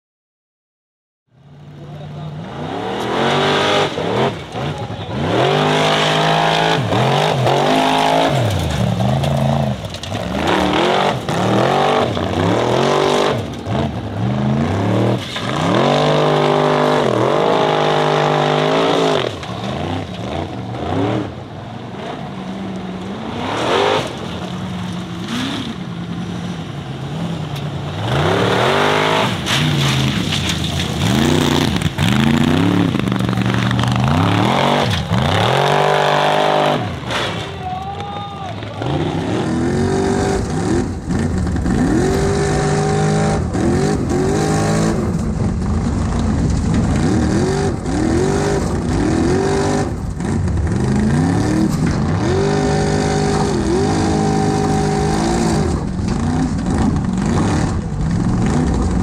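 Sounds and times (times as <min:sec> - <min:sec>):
buggy engine revving hard: 0:02.2 - 0:24.3, 0:25.2 - 0:26.3, 0:27.1 - 0:30.2, 0:30.8 - 0:37.6, 0:38.7 - 0:59.0.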